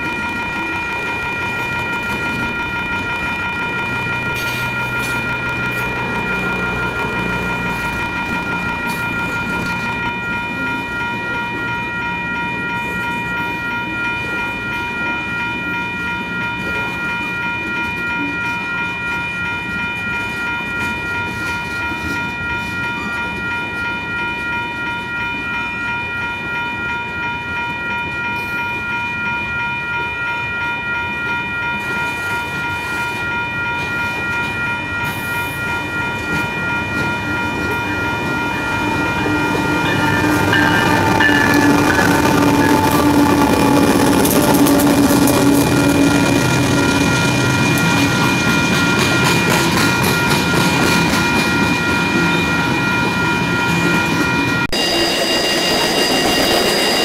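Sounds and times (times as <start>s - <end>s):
train cars rumbling on rails: 0.0s - 29.6s, 30.5s - 57.0s.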